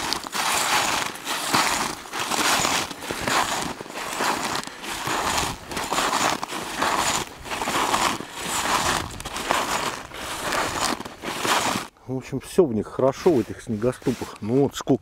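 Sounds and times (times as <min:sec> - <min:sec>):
snowshoes crunching through snow: 0:00.0 - 0:11.9, 0:13.2 - 0:14.7.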